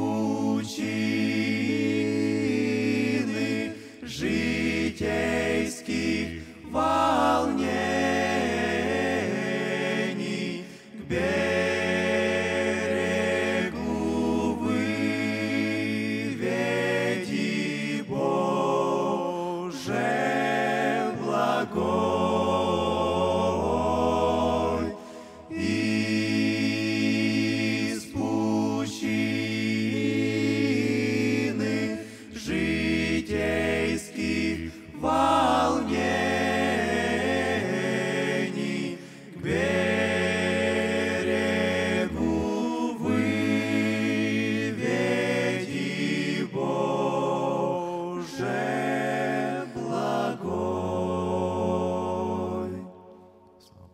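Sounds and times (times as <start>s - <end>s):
male choir singing a cappella: 0.0s - 53.9s.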